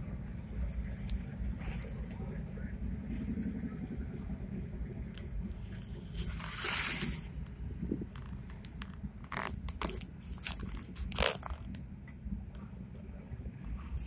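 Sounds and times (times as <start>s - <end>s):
vehicle cabin rumble: 0.0s - 14.0s.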